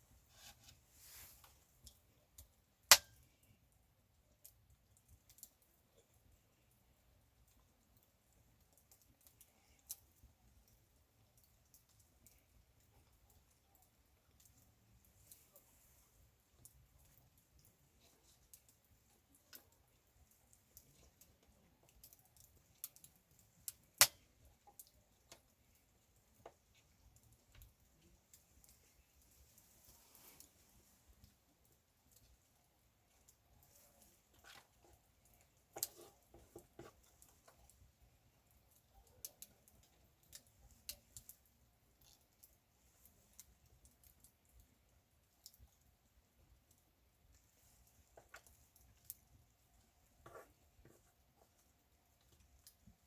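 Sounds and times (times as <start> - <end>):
campfire wood crackling: 0.0 - 53.0
quiet hiss: 0.0 - 53.0.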